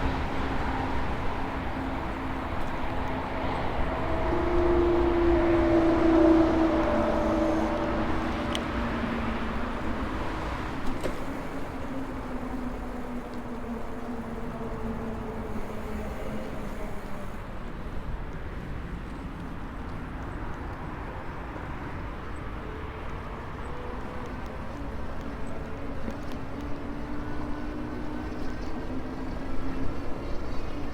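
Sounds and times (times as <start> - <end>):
wind: 0.0 - 30.9.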